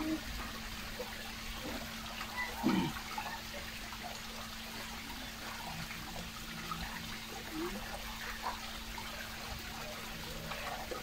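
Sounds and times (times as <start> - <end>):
waterfall trickling over stones: 0.0 - 11.0.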